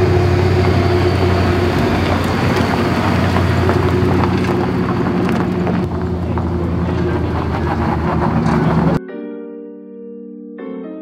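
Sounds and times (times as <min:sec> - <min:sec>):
car engine running at steady revs: 0:00.0 - 0:09.0.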